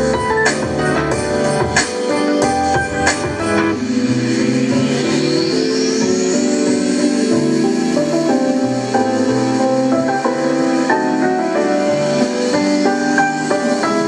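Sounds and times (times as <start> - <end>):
bass line: 0.0 - 14.0
keyboard music over loudspeakers: 0.0 - 14.0.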